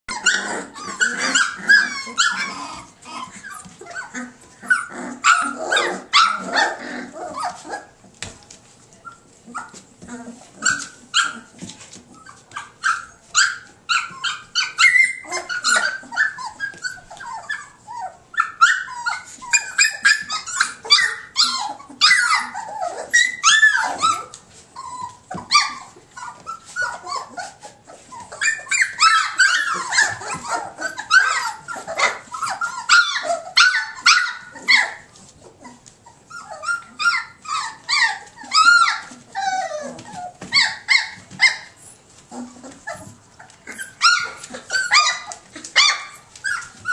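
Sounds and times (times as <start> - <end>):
puppies whining and yipping: 0.1 - 8.0, 9.0 - 46.9.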